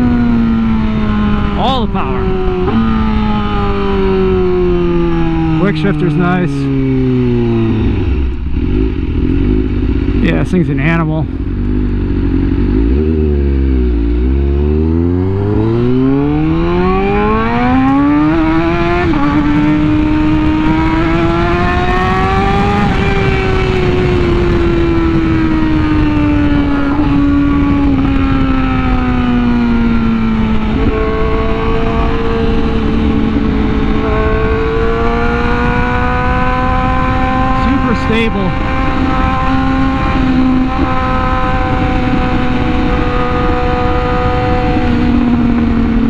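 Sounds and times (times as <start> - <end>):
motorcycle engine revving: 0.0 - 46.0
wind rush on microphone: 0.0 - 46.0.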